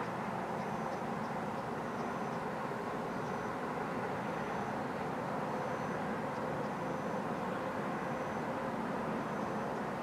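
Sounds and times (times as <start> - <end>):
distant traffic hum: 0.0 - 10.0.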